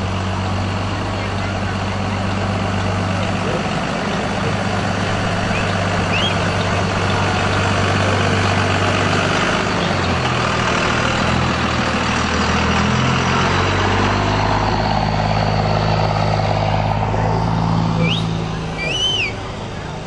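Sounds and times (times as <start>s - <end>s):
large vehicle engine running: 0.0s - 20.0s.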